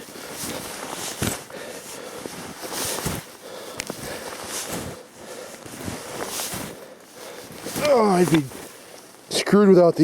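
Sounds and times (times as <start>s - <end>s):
snowshoe steps in deep snow: 0.0s - 9.3s.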